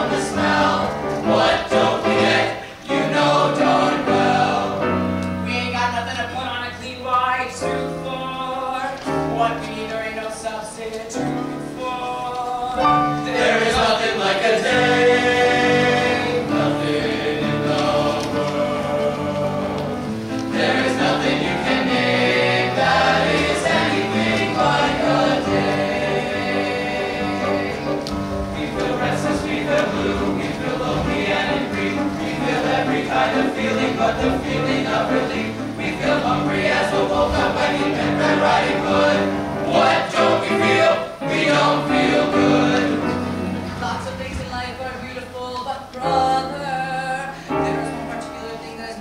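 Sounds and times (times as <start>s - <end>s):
male vocal group singing in harmony: 0.0s - 5.1s, 7.2s - 43.6s, 45.0s - 49.0s.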